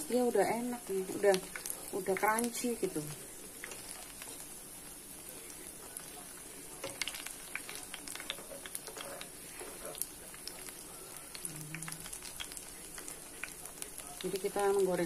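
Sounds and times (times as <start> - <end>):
fritters deep-frying in oil: 0.0 - 15.0.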